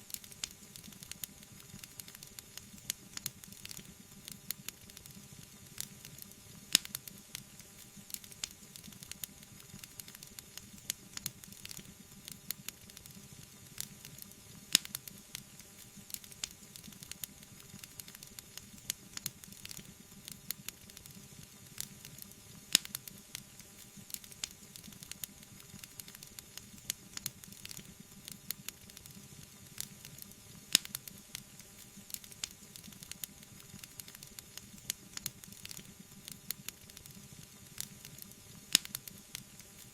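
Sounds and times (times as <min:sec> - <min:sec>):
sharp snap of fire: 0:00.1 - 0:05.2, 0:05.8 - 0:13.1, 0:13.8 - 0:21.2, 0:21.8 - 0:37.2, 0:37.8 - 0:39.9
wood fire crackling: 0:00.1 - 0:39.9.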